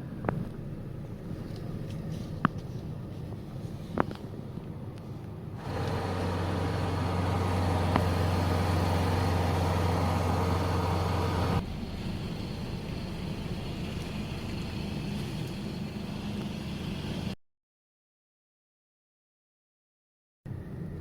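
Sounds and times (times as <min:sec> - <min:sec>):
car engine and road drone: 0:00.0 - 0:17.4, 0:20.5 - 0:21.0.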